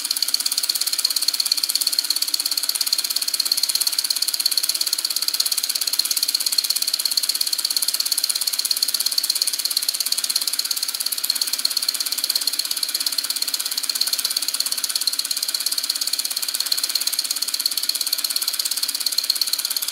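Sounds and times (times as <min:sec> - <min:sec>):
solenoid engine clicking clatter: 0:00.0 - 0:19.9.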